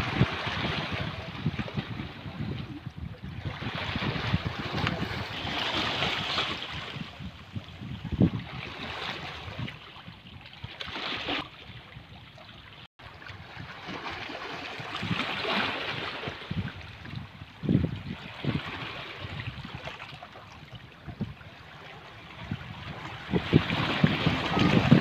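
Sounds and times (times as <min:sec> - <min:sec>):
waves lapping against rocks: 0:00.0 - 0:25.0.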